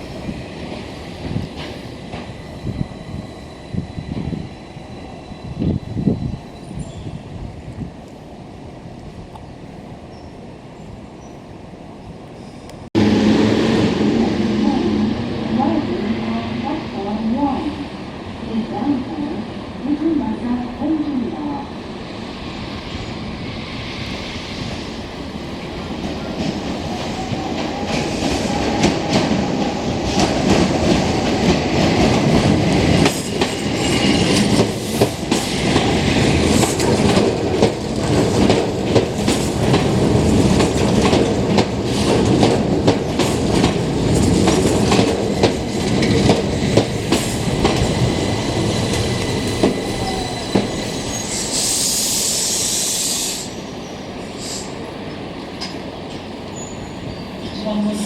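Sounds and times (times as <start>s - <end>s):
electric train running by: 0.0s - 58.0s.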